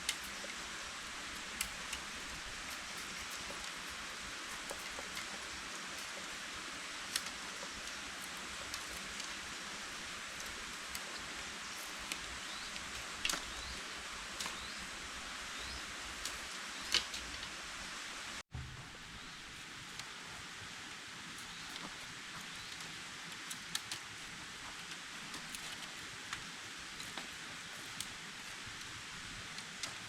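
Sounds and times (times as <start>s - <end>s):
rain on foliage: 0.0s - 18.4s, 19.5s - 30.0s.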